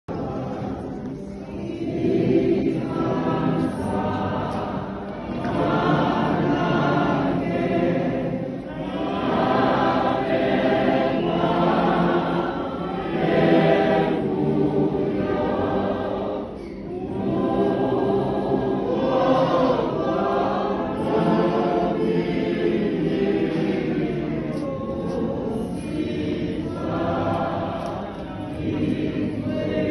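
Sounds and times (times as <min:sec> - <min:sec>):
congregation singing a hymn: 0:00.1 - 0:29.9.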